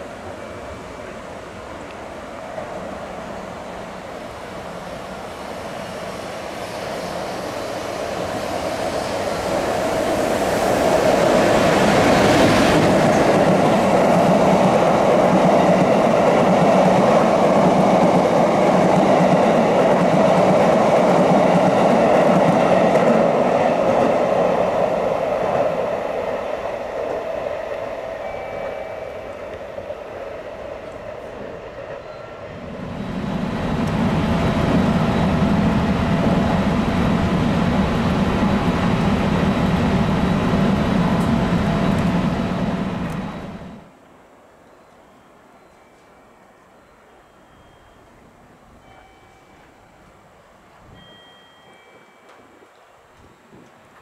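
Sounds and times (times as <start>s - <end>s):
low train rumble: 0.0s - 54.0s
train running past on rails: 0.0s - 54.0s.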